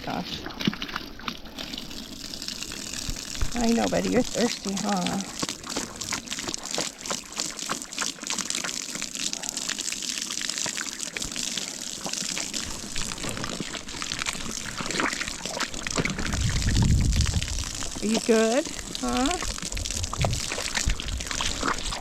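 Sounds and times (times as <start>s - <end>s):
horse drinking water: 0.0s - 22.0s.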